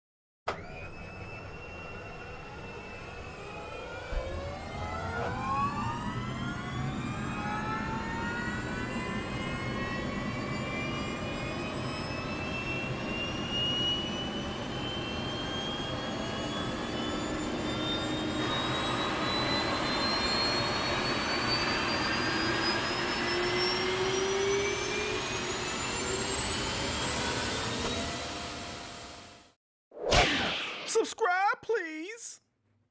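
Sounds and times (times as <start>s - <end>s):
jet turbine whine rising: 0.5s - 31.0s.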